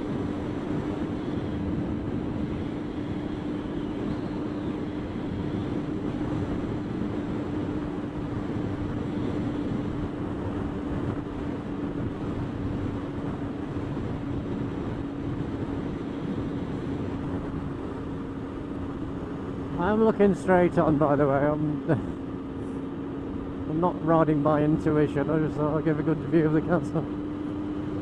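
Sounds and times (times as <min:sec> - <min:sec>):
motorcycle engine cruising: 0:00.0 - 0:28.0
wind and road noise: 0:00.0 - 0:28.0.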